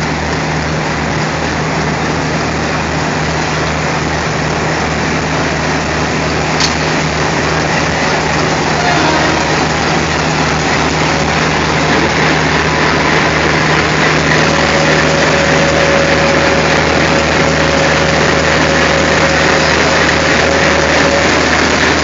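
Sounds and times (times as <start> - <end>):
locomotive engine humming: 0.0 - 22.0
thin steady whine: 0.0 - 22.0.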